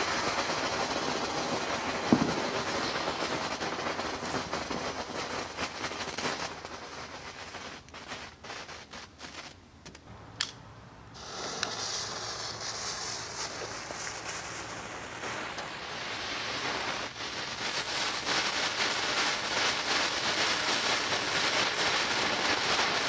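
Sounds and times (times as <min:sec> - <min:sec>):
firework fizzing and hissing: 0:00.0 - 0:09.7, 0:11.2 - 0:23.0
firework crackles and snap: 0:00.0 - 0:10.6, 0:11.2 - 0:23.0.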